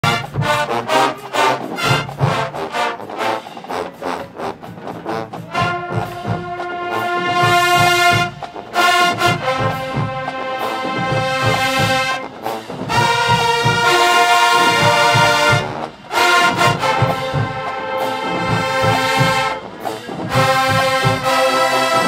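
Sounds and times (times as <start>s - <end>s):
marching band brass playing: 0.0s - 22.0s.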